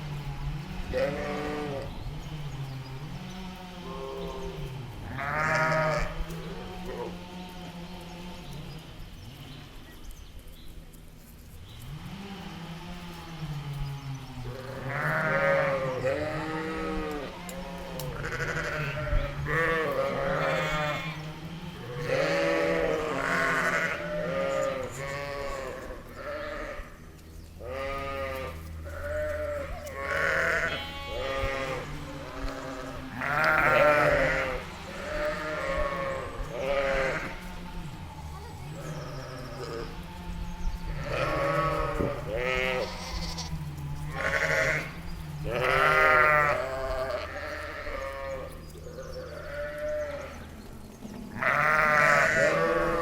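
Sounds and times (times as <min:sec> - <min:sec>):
sheep and lambs bleating: 0:00.0 - 0:09.0, 0:11.8 - 0:53.0.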